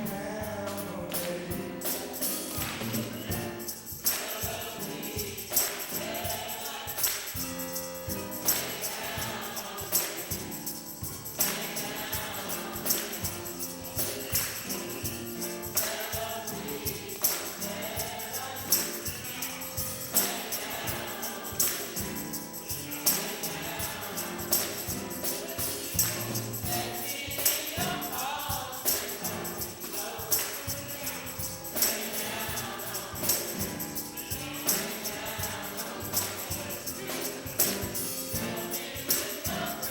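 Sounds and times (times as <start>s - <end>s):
choir singing gospel music: 0.0s - 39.9s
tambourine jingling: 0.0s - 39.9s.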